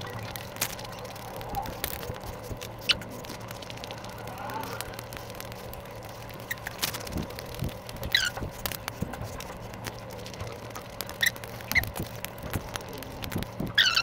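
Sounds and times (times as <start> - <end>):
wet chewing and crunching: 0.0 - 14.0.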